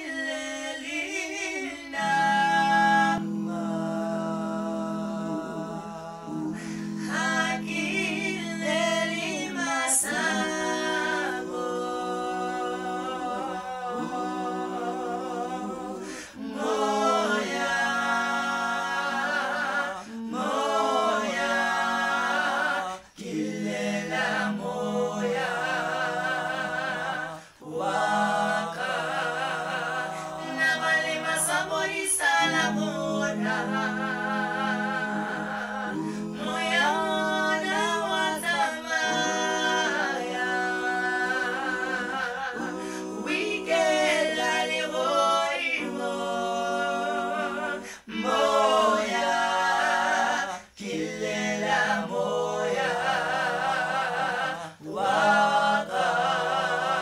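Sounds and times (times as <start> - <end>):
a cappella harmony singing: 0.0 - 57.0.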